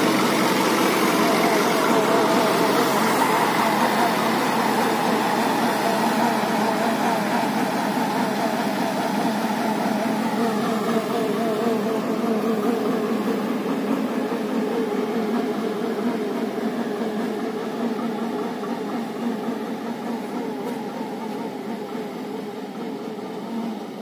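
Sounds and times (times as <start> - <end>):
tractor sprayer engine and fan drone: 0.0 - 24.0.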